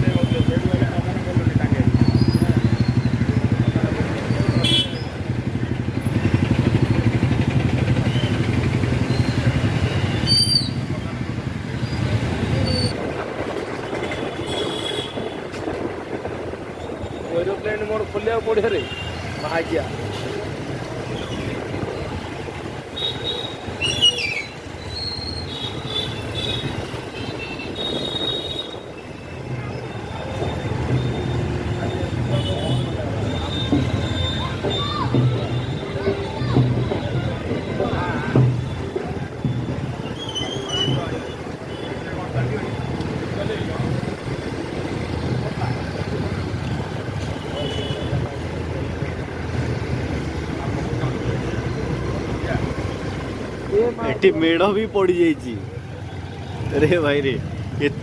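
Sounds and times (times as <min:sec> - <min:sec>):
road and wind rumble: 0:00.0 - 0:58.0.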